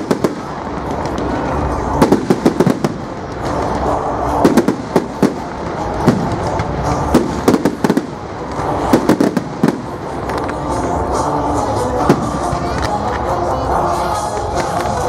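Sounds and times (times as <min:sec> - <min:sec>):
fireworks bangs and crackles: 0:00.0 - 0:15.0
rumble of fireworks bursts: 0:00.0 - 0:15.0.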